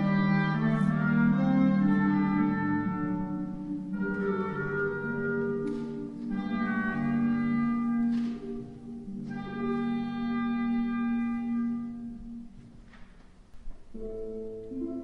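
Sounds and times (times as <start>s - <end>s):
woodwinds playing slow chords: 0.0s - 12.7s.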